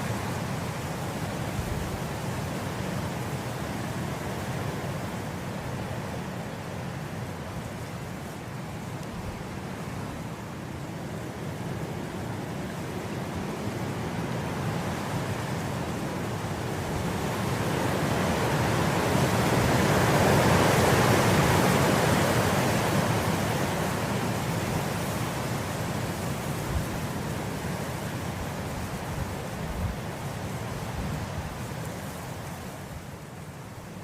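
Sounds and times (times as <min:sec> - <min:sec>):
wind blowing through grass: 0:00.0 - 0:34.0.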